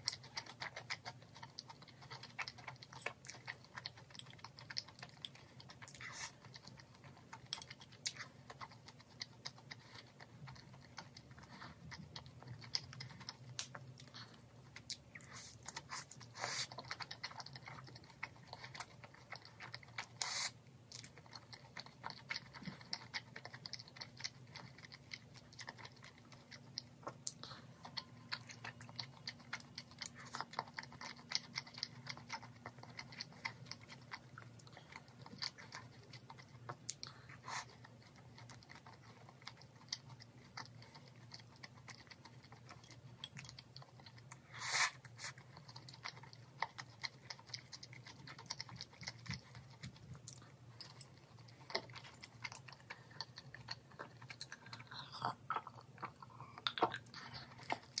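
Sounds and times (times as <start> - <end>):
crunchy chewing of fried chicken: 0.0 - 58.0
faint low hum: 0.0 - 58.0.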